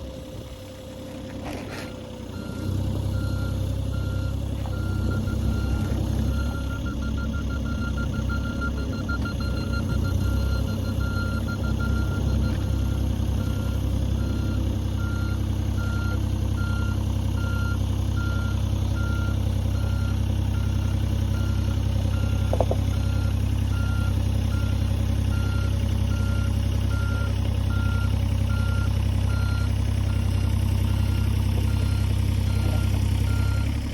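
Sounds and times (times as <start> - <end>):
excavator diesel engine idling: 0.0 - 33.9.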